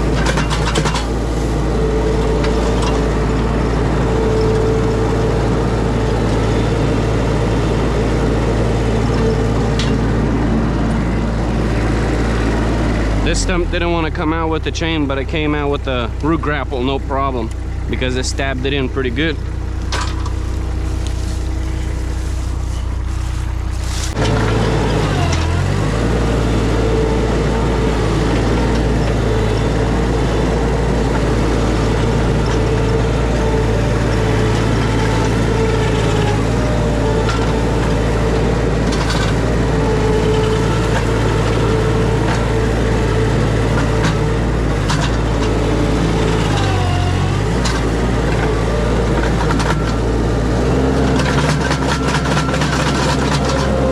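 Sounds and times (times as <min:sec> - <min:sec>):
skid steer engine under load: 0:00.0 - 0:53.9.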